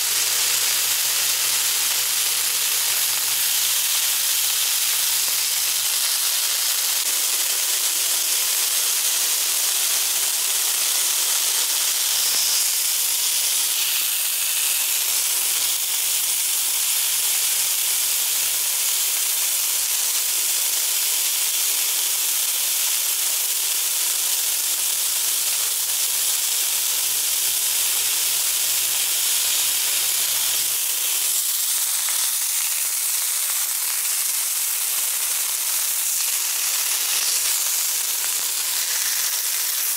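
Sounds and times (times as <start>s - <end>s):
meat sizzling in oil: 0.0s - 39.9s.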